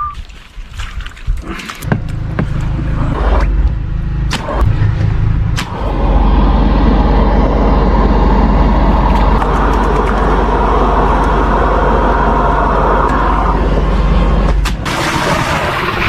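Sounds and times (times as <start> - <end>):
low hum: 1.3 - 16.0
drain-cleaning machine running: 1.9 - 16.0.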